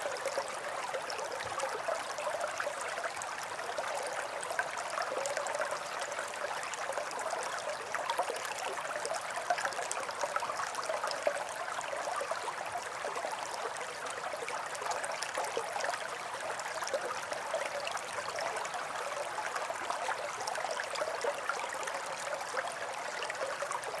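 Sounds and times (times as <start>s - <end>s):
brook water burbling: 0.0s - 24.0s.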